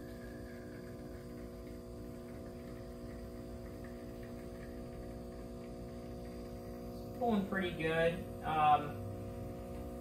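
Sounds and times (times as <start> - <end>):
espresso machine pump humming: 0.0 - 10.0.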